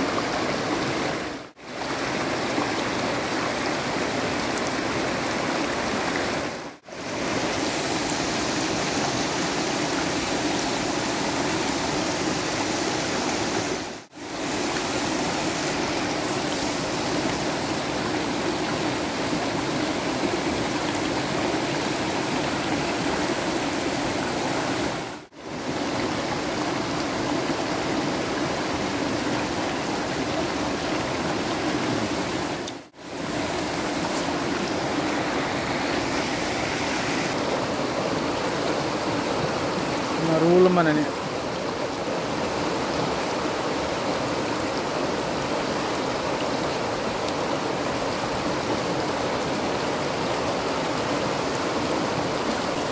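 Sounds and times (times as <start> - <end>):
river rushing over rocks: 0.0 - 52.9.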